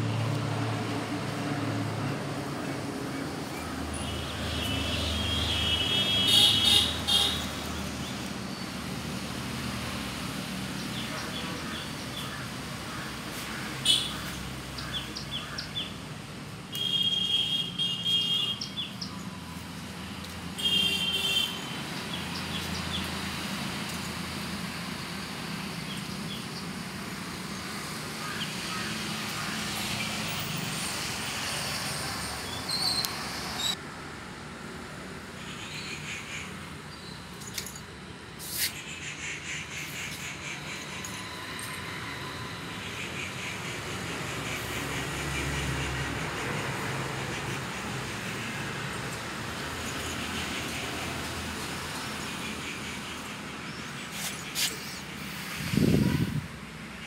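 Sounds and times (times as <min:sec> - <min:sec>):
low hum of road traffic: 0:00.0 - 0:57.0.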